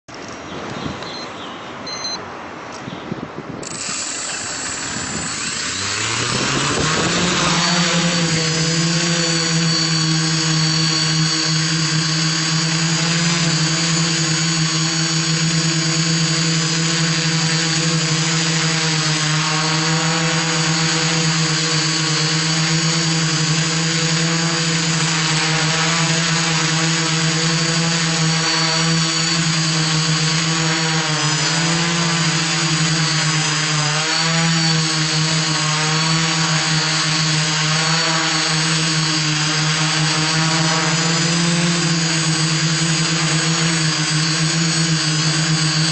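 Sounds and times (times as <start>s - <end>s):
drone propellers buzzing whine: 3.6s - 45.9s.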